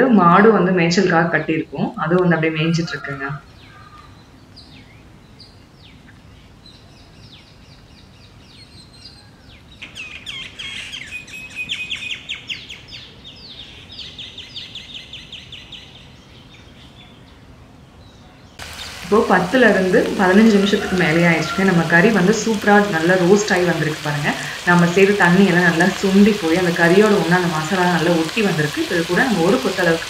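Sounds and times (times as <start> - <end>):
birds chirping: 2.2 - 30.0.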